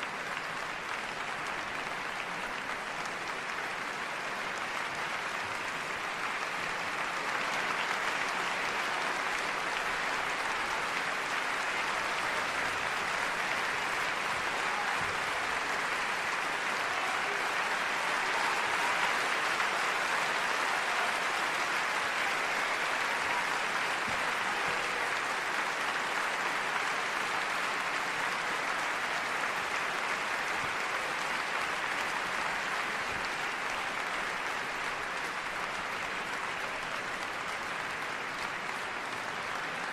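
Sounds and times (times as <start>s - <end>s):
dense crowd noise: 0.0s - 39.9s.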